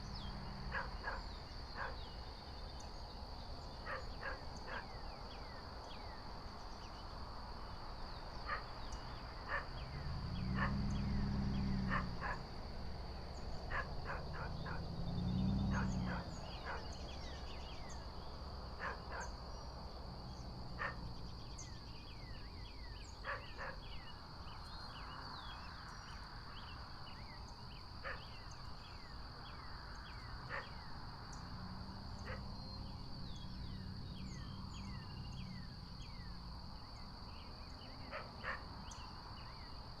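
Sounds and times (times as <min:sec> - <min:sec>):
birds chirping: 0:00.0 - 0:12.5, 0:13.1 - 0:39.9.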